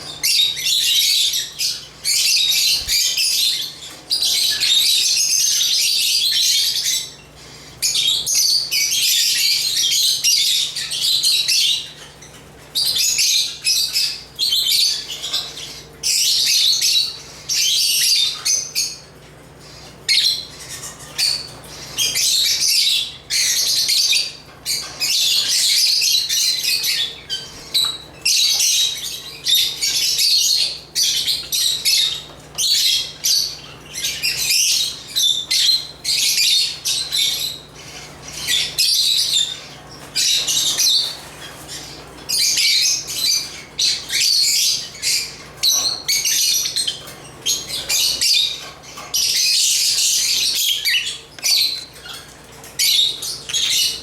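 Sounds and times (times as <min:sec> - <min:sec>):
lovebirds chirping and squawking: 0:00.0 - 0:54.0.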